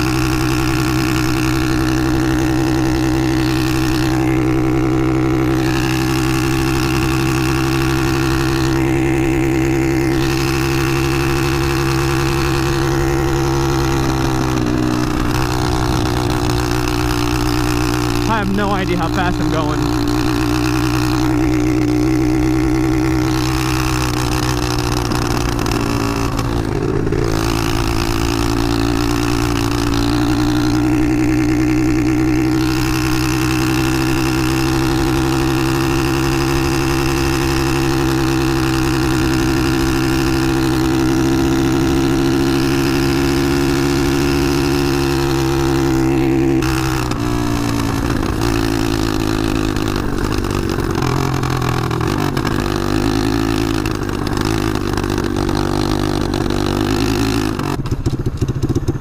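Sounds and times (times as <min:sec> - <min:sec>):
motorcycle engine at high throttle: 0:00.0 - 0:59.0.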